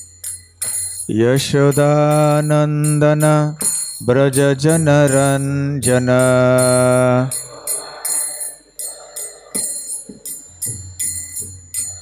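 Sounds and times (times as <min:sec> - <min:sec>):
hand cymbals beating: 0:00.0 - 0:12.0.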